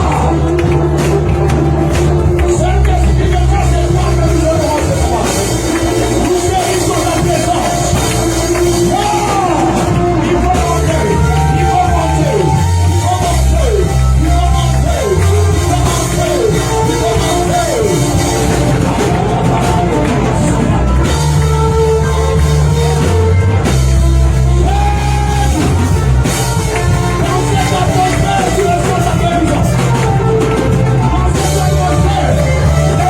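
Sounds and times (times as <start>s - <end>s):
congregation singing: 0.0s - 33.0s
live worship band: 0.0s - 33.0s
steady bass line: 0.0s - 33.0s
sung melody: 0.0s - 33.0s.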